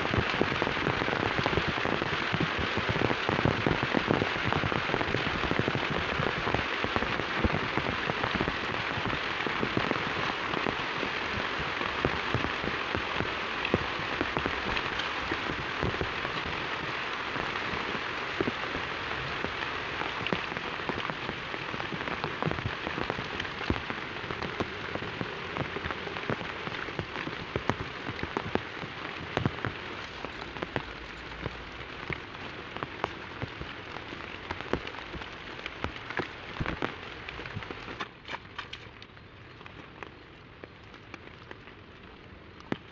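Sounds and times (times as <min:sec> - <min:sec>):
heavy rain on hard surface: 0:00.0 - 0:42.9.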